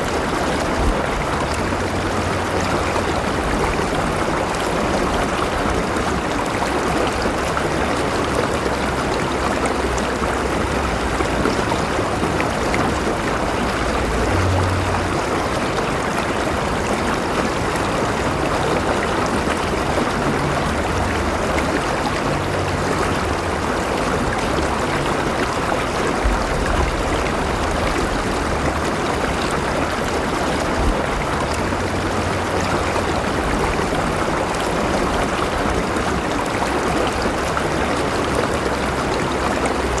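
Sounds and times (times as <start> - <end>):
river flowing over rocks: 0.0 - 40.0.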